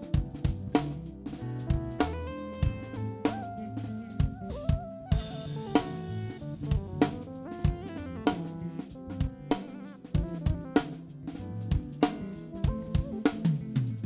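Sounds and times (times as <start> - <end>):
bass line: 0.0 - 14.0
drum kit beat: 0.0 - 14.0
held melody line: 0.0 - 14.0
live band playing: 0.0 - 14.0.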